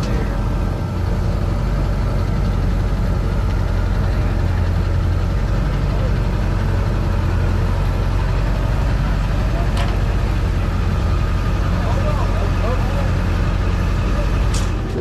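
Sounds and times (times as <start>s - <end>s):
pickup truck engine idling: 0.0s - 15.0s.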